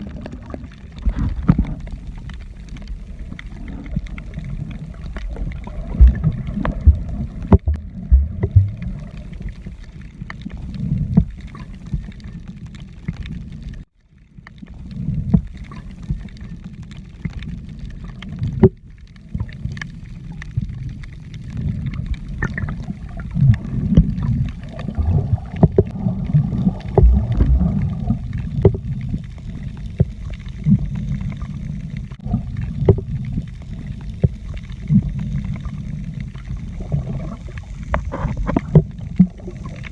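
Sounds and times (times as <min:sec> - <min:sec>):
muffled underwater sloshing rumble: 0:00.0 - 0:39.9.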